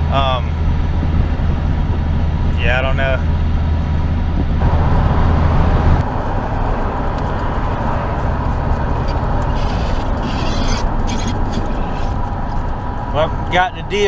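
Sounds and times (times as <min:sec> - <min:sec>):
low engine hum: 0:00.0 - 0:14.0
road and wind noise: 0:00.0 - 0:14.0.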